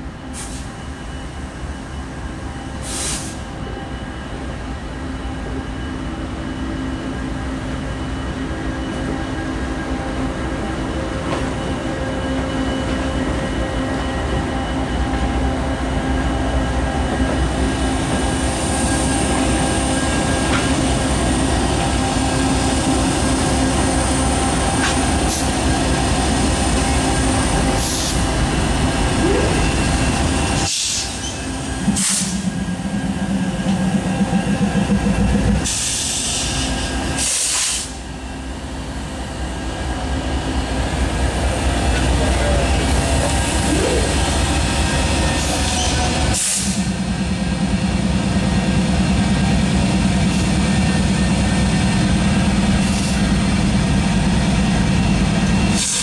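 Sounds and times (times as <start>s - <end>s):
diesel locomotives passing: 0.0s - 56.0s.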